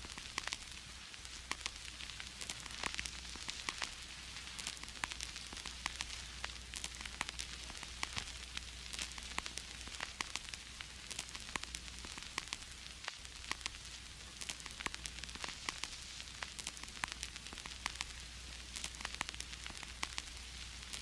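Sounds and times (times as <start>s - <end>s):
vinyl record hiss and crackle: 0.0s - 21.0s.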